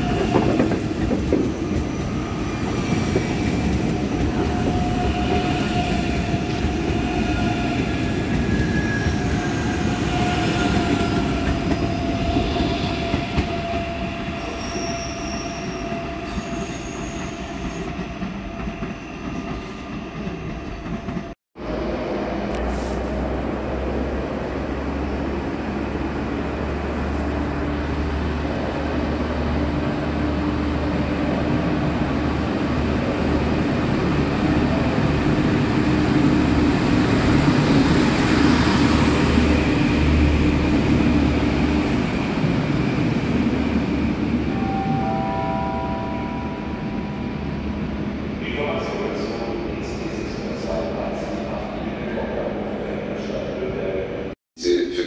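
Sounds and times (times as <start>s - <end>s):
deep train rumble: 0.0s - 14.6s, 17.6s - 54.4s.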